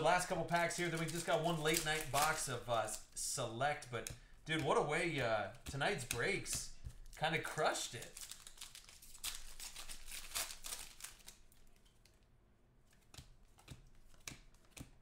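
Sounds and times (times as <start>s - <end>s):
cards and foil wrappers rustling: 0.0s - 12.2s.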